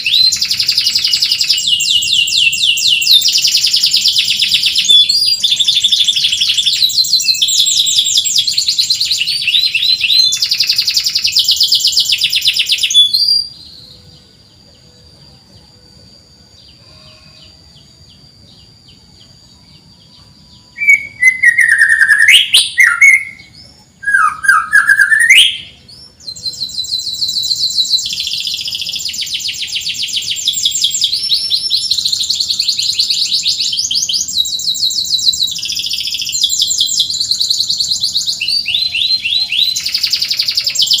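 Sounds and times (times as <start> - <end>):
canary trilling: 0.0 - 41.0.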